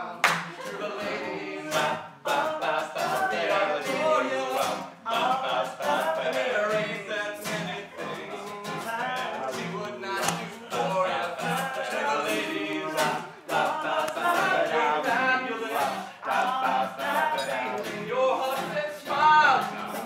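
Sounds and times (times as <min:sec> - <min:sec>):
group of people singing: 0:00.0 - 0:20.0
strummed acoustic guitar: 0:00.0 - 0:20.0.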